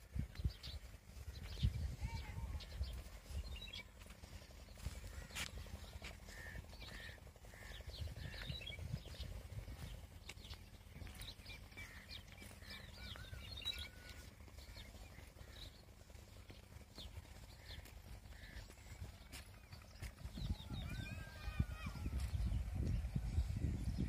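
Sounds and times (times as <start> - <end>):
faint low rumble: 0.0 - 24.0
small birds chirping: 0.0 - 24.0.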